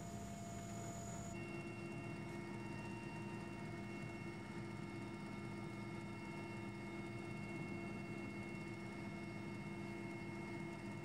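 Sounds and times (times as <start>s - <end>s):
helicopter engine drone: 0.0s - 11.0s.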